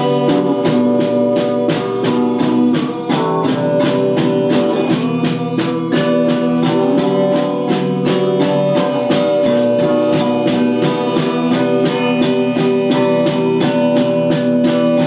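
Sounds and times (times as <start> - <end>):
drum kit beat: 0.0 - 15.0
guitar: 0.0 - 15.0.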